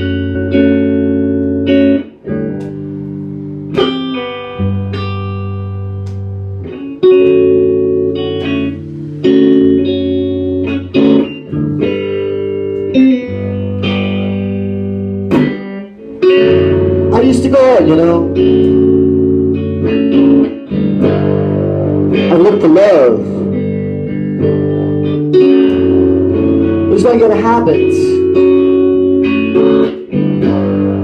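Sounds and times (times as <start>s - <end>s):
guitar chords ringing: 0.0s - 31.0s.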